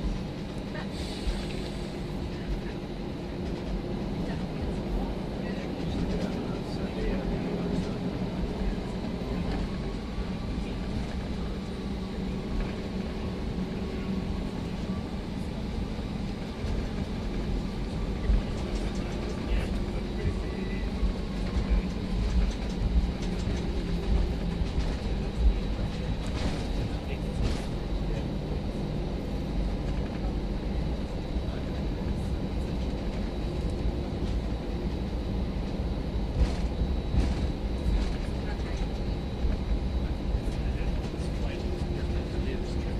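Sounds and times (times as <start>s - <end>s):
aircraft engines idling: 0.0s - 42.9s
constant cabin hum: 0.0s - 42.9s.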